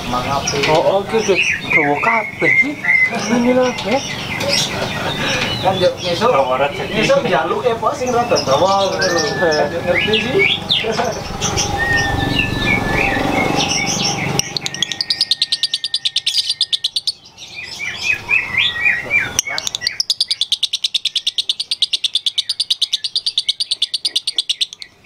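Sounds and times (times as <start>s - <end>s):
bird chirps: 0.2s - 25.0s
bird chattering trill: 0.4s - 25.0s.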